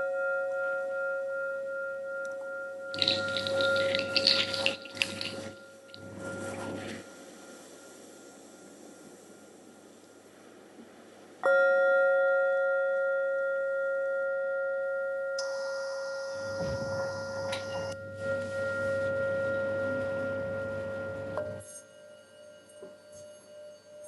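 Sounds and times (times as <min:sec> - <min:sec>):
singing bowl ringing: 0:00.0 - 0:10.0, 0:11.4 - 0:24.0.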